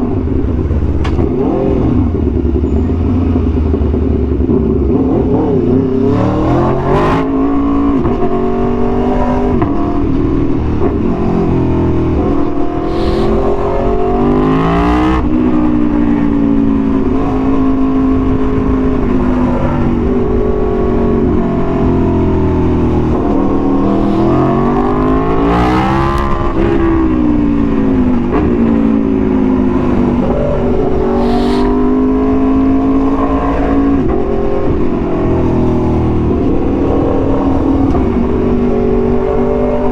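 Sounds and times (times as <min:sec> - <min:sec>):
motorcycle engine accelerating: 0:00.0 - 0:39.9
wind noise: 0:00.0 - 0:39.9.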